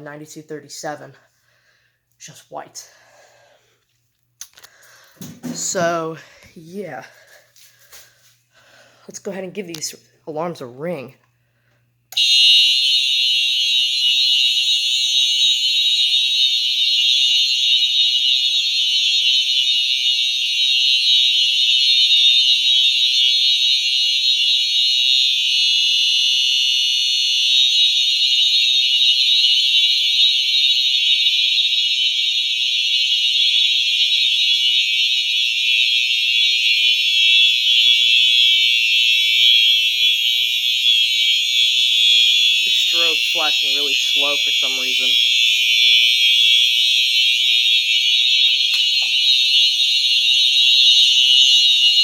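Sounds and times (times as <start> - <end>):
fire alarm horns sounding: 0.0 - 3.8, 4.6 - 52.0.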